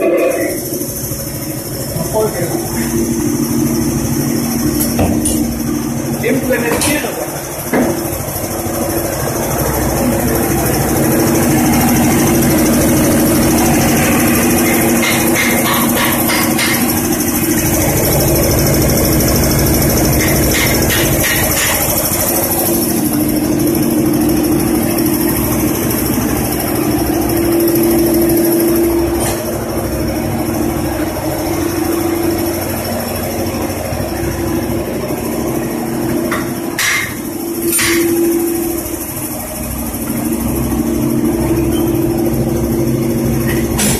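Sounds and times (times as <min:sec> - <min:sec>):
engine running steadily: 0:00.0 - 0:43.9.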